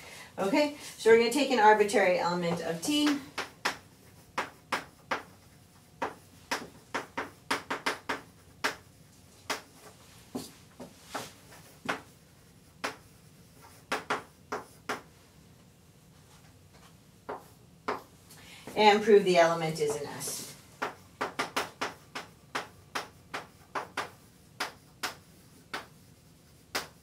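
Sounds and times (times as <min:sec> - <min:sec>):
chalk tapping and scraping: 0:01.4 - 0:15.2, 0:16.2 - 0:27.0.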